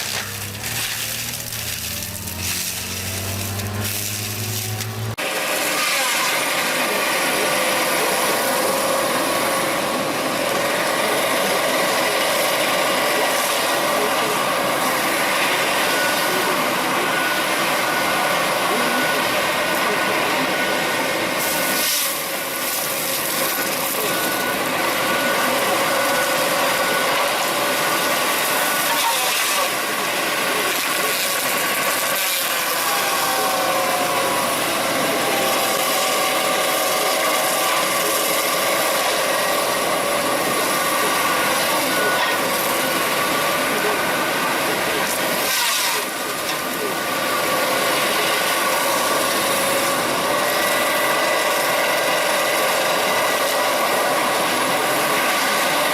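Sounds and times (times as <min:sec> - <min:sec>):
wood-cutting machinery whining: 0:00.0 - 0:55.9.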